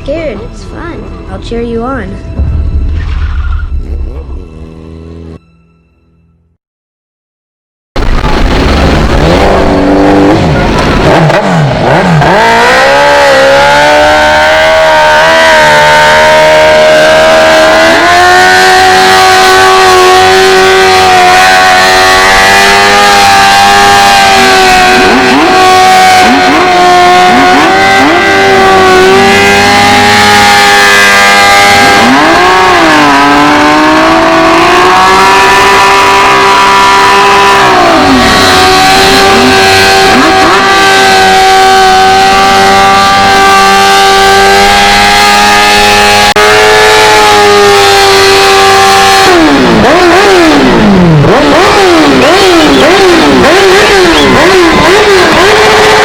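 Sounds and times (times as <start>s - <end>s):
motorcycle engine revving: 2.4s - 5.4s, 8.5s - 56.0s.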